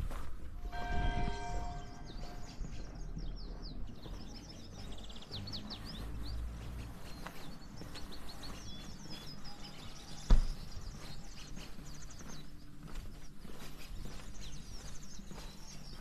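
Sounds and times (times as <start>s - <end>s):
small birds chirping: 1.4s - 16.0s.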